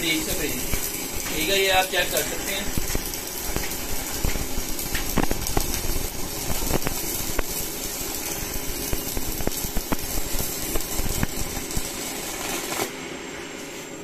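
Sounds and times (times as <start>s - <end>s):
welding arc crackling and popping: 0.0s - 14.0s.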